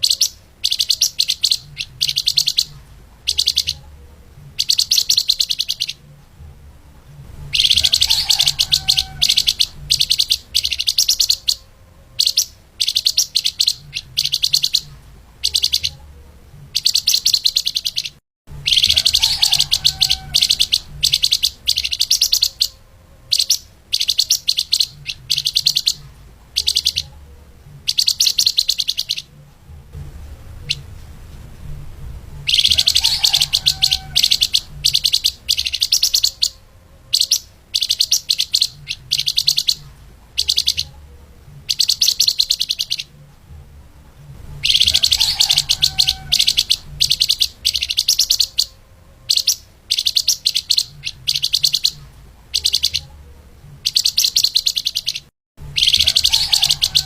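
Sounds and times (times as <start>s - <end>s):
songbird rapid chattering song: 0.0s - 31.0s, 32.3s - 43.6s, 44.2s - 57.0s.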